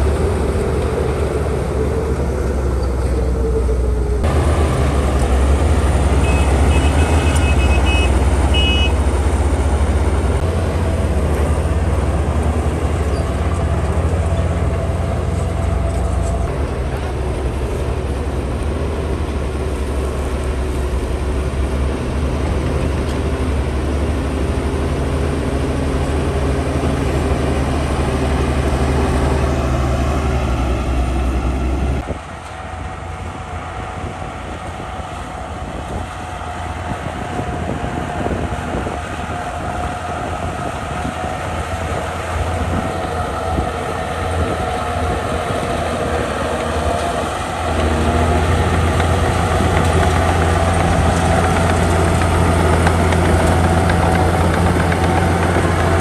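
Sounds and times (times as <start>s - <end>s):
diesel engine running hard: 0.0s - 56.0s.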